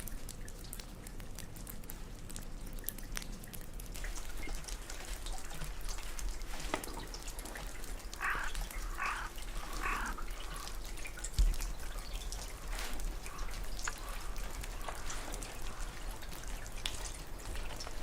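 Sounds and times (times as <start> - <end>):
water dripping and trickling: 0.0 - 18.0.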